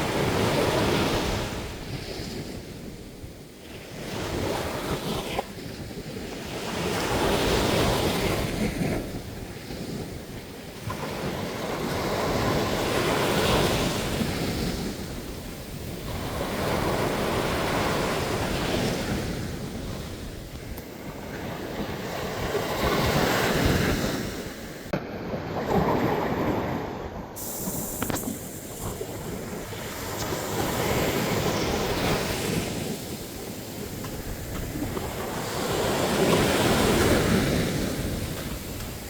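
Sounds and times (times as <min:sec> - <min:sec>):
ocean waves breaking on beach: 0:00.0 - 0:39.0
wind on microphone: 0:00.0 - 0:39.0.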